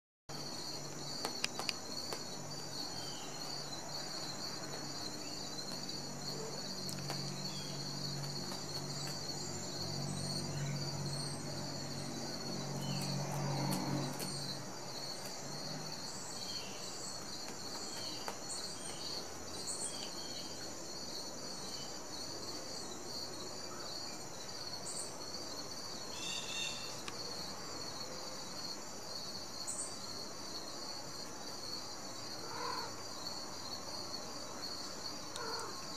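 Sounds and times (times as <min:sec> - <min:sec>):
insects chirping: 0:00.3 - 0:35.9.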